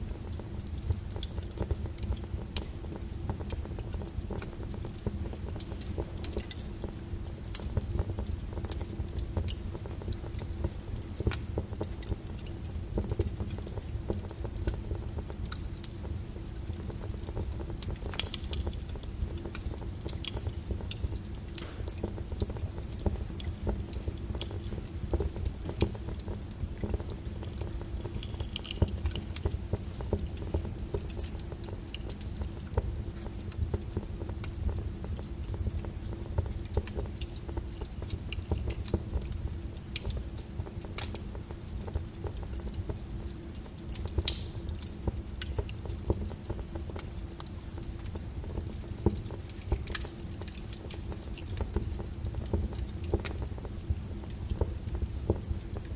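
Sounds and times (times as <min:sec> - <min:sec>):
fire crackling in fireplace: 0:00.0 - 0:55.9.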